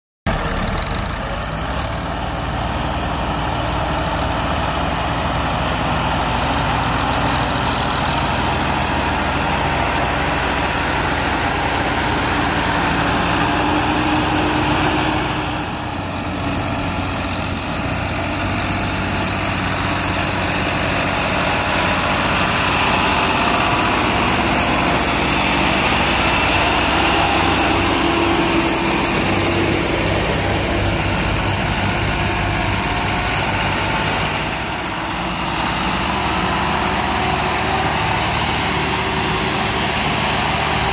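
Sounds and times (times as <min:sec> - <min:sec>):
tractor engines under load: 0:00.3 - 0:40.9.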